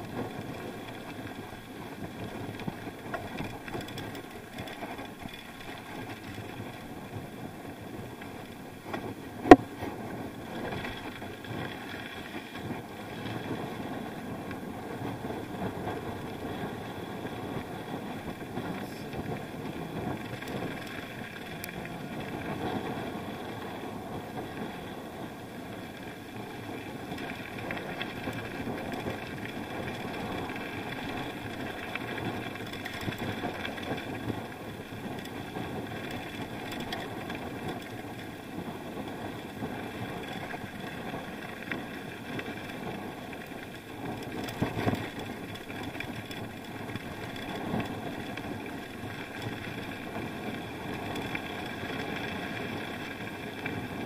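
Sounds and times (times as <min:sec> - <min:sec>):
bike riding rushing din: 0:00.0 - 0:54.0.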